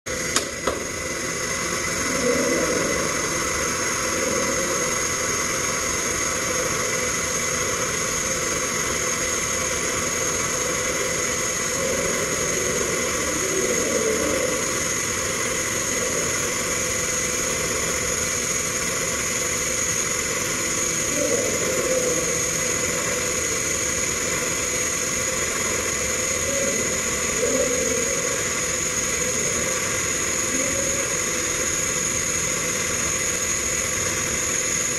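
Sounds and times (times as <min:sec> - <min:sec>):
industrial machinery drone: 0:00.1 - 0:34.9
welding arc hissing: 0:00.1 - 0:34.9.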